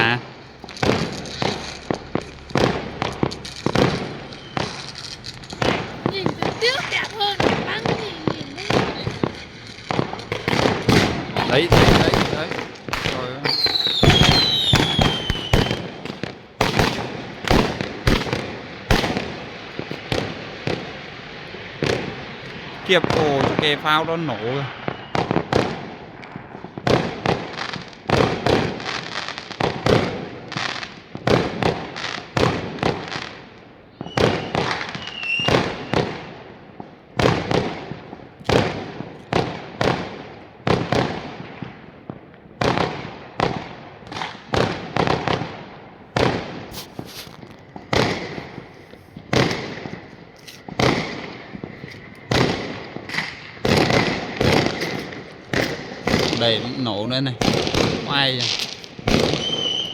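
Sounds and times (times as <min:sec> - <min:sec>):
fireworks and firecrackers exploding: 0:00.0 - 0:59.9.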